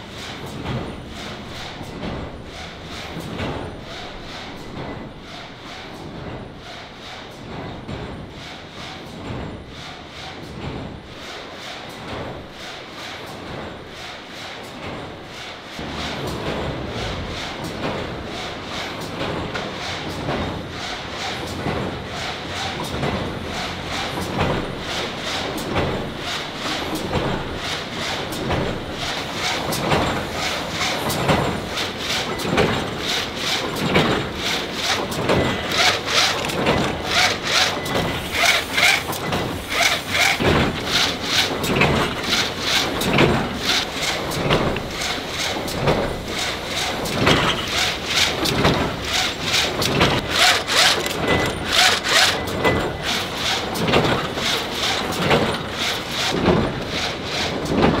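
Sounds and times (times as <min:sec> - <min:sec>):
tufting machine running: 0:00.0 - 0:58.0.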